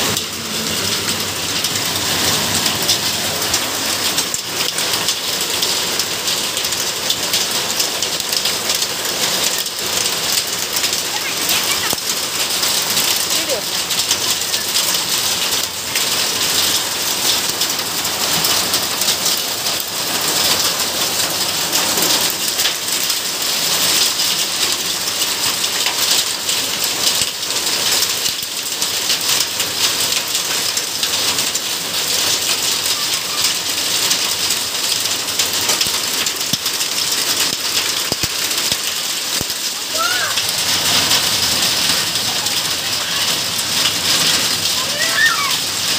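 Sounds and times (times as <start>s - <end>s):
heavy rain and hail on pavement: 0.0s - 45.9s.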